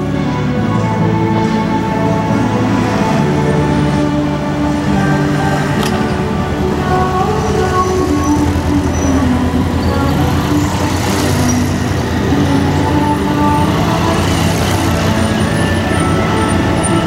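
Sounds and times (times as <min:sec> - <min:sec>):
bus engine driving past: 0:00.0 - 0:17.0
music playing: 0:00.0 - 0:17.0.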